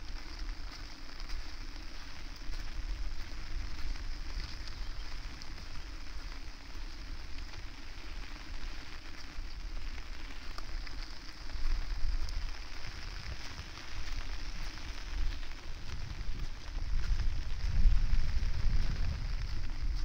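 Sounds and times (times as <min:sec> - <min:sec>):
steady rain falling: 0:00.0 - 0:20.0
wind rumbling on microphone: 0:00.0 - 0:20.0.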